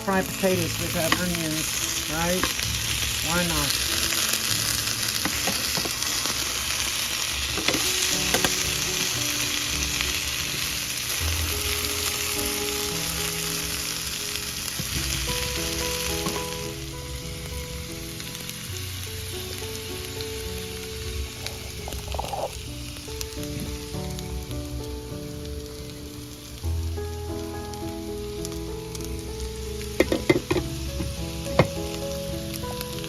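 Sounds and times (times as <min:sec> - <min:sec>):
potatoes and onions sizzling in oil: 0:00.0 - 0:33.0.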